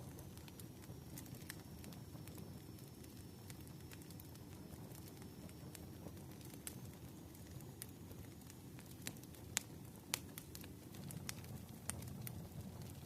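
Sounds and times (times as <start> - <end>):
fire crackling: 0.0 - 13.0
fire popping and snapping: 0.0 - 13.0.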